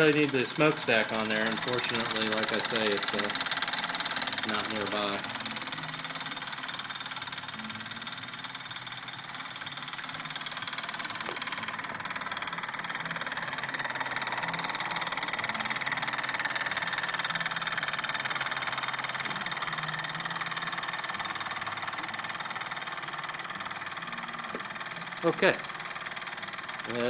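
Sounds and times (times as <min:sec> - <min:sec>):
toy steam engine chuffing: 0:00.0 - 0:27.0.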